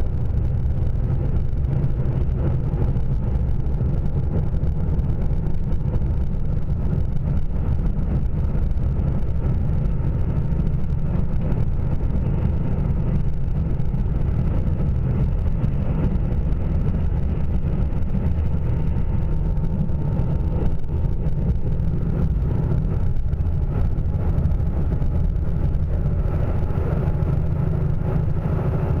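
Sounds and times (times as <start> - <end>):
train cabin low rumble: 0.0 - 29.0.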